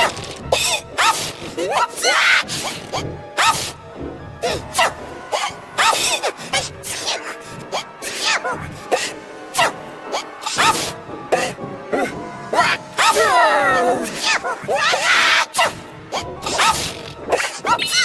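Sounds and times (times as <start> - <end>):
music: 0.0 - 18.0.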